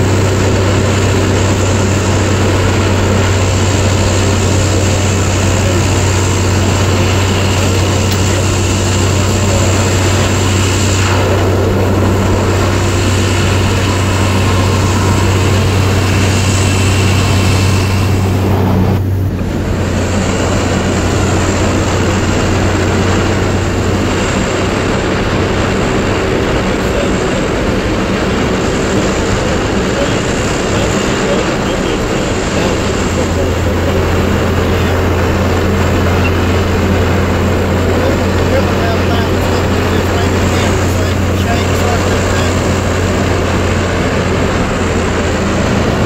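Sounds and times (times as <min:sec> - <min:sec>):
pickup truck engine drone: 0:00.0 - 0:46.0
strong low hum: 0:00.0 - 0:46.0.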